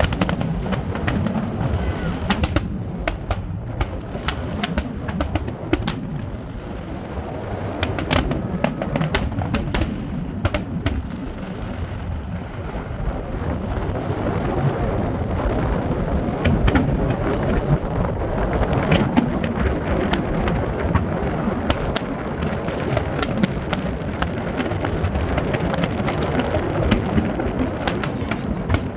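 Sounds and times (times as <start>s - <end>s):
fireworks booming: 0.0s - 28.9s
fireworks crackling pops: 0.0s - 28.9s.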